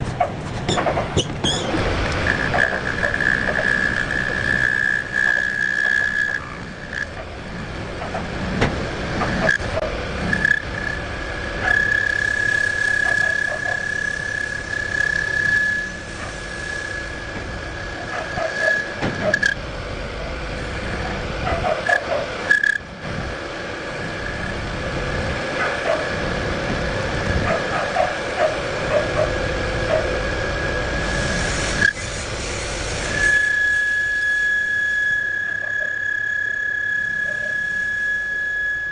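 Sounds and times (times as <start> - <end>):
rough mechanical noise: 0.0 - 38.9
machine tool whine: 0.7 - 38.9.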